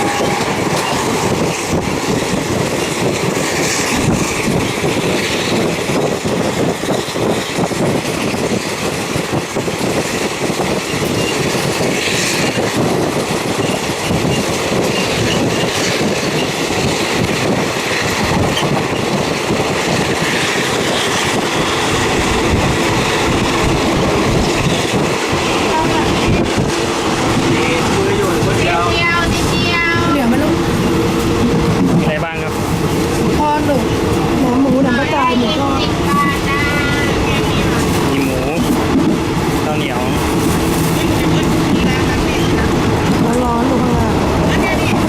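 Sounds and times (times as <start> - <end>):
train wheels clacking on rails: 0.0 - 45.0.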